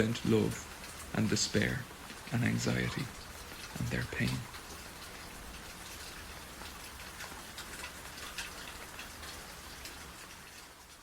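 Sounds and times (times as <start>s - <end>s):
light rain on a porch: 0.0s - 11.0s.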